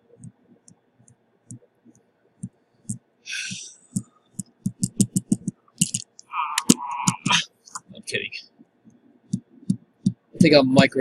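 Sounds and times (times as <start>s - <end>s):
fingertips tapping on touchscreen: 0.1s - 10.9s.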